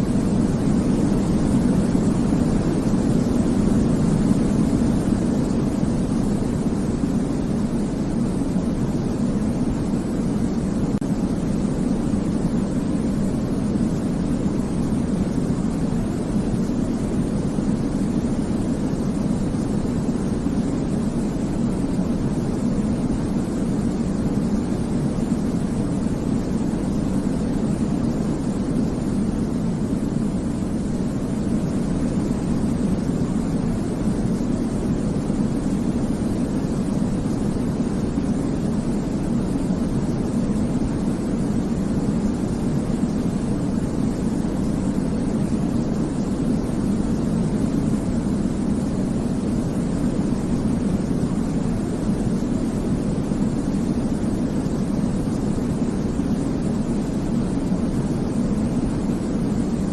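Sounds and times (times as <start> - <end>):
deep white noise: 0.0 - 59.9.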